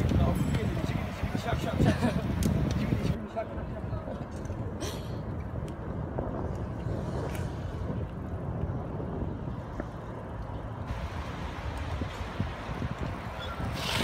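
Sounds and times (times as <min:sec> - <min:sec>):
street background rumble: 0:00.0 - 0:14.0.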